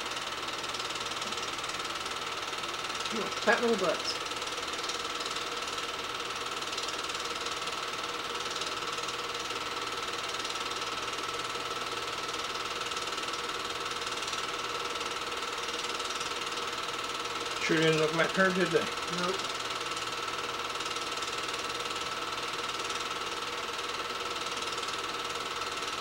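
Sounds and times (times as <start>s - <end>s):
faint projector whine: 0.0s - 26.0s
film projector whirring: 0.0s - 26.0s.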